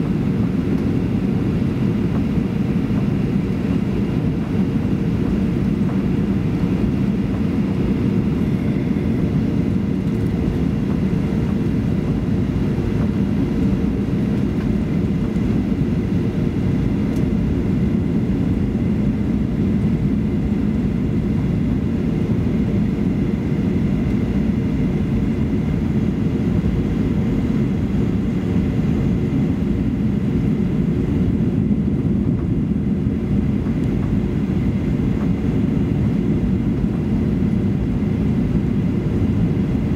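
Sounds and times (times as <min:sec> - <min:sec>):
airplane cabin engine noise: 0:00.0 - 0:39.9.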